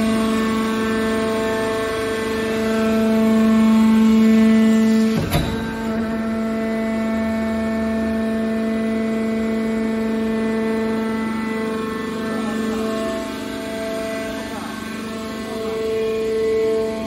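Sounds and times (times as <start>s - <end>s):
hydraulic pump whining hum: 0.0s - 17.0s.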